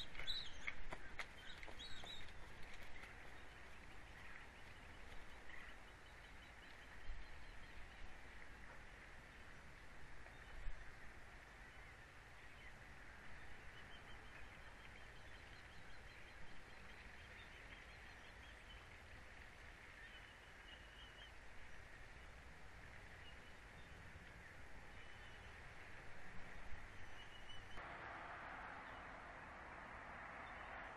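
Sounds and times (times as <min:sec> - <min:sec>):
steady hiss and low rumble: 0:00.0 - 0:30.9.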